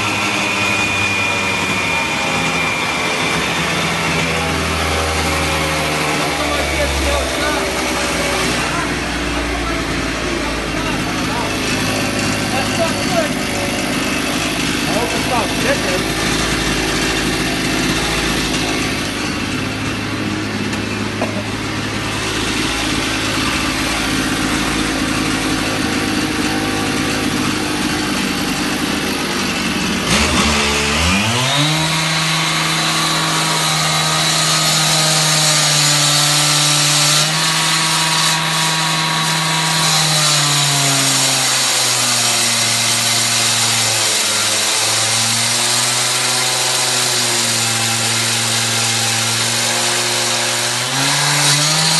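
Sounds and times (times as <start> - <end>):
concrete saw engine revving: 0.0 - 51.9.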